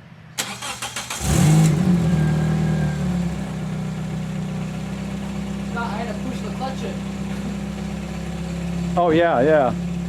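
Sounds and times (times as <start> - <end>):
car engine cranking and idling: 0.3 - 10.0.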